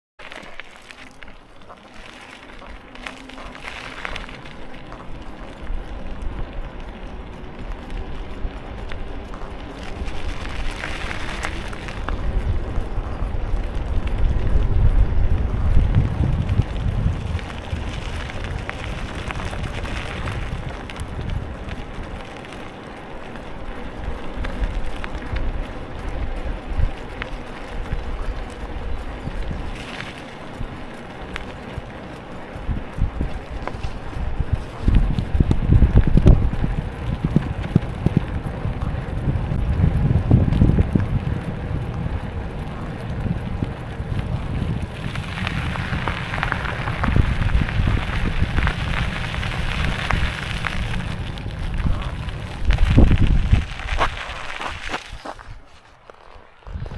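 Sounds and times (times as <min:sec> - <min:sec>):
wind buffeting microphone: 0:00.4 - 0:56.9.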